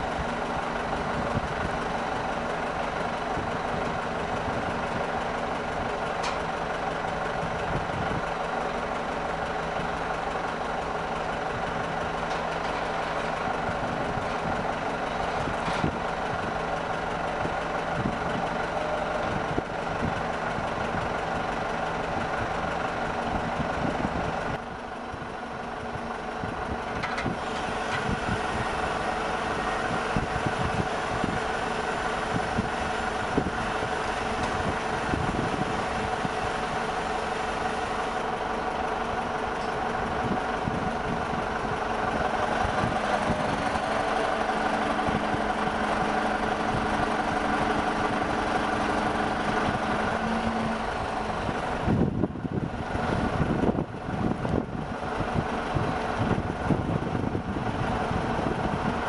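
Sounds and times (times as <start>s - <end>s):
construction machinery humming: 0.0s - 59.0s.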